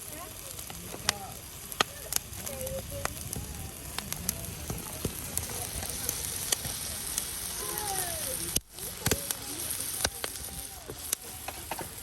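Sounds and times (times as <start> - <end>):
fire crackling pops: 0.0 - 12.0
fire hissing: 0.0 - 12.0.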